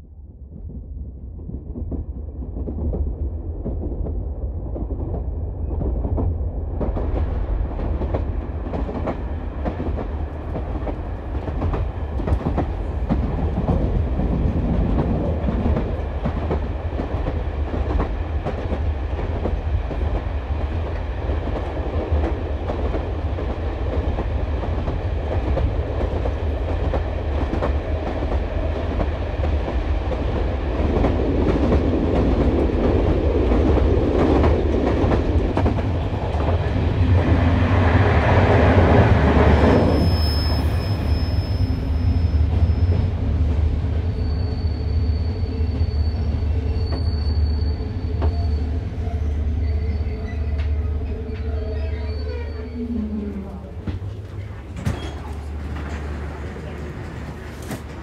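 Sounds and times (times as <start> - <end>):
train wheels rumbling on track: 0.1 - 58.0.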